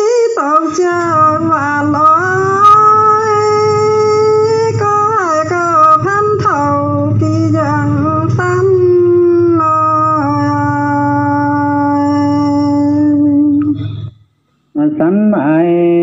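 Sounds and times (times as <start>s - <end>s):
person singing folk song: 0.0s - 14.1s, 14.8s - 16.0s.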